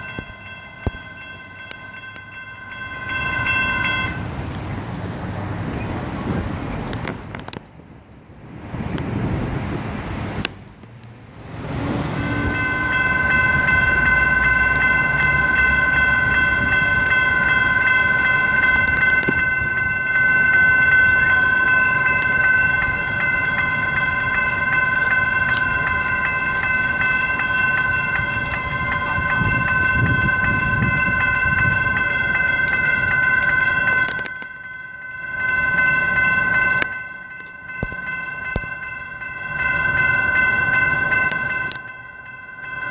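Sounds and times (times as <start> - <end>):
railroad crossing bells ringing: 0.0 - 7.0, 11.4 - 42.9
passing road traffic: 0.0 - 42.9.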